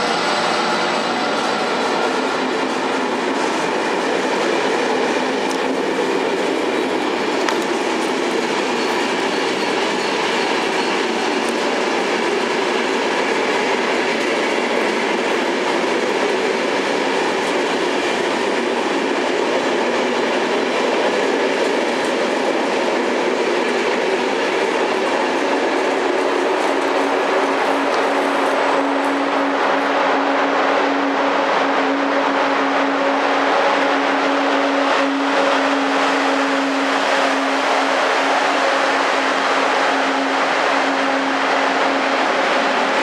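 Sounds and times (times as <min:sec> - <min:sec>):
train wheels running on rails: 0:00.0 - 0:43.0.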